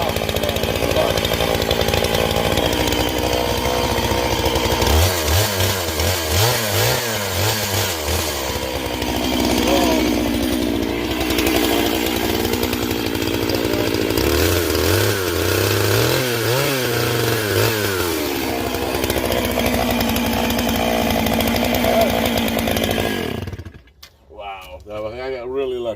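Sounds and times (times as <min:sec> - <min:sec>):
chainsaw cutting wood: 0:00.0 - 0:24.1.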